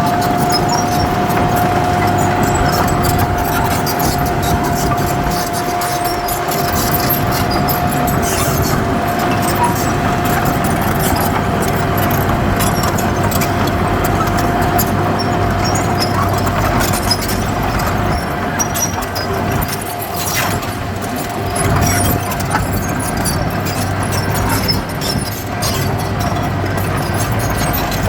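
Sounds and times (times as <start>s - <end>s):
constant whine: 0.0s - 28.0s
diesel machinery running: 0.0s - 28.0s
light ticks and clatter: 0.0s - 28.0s.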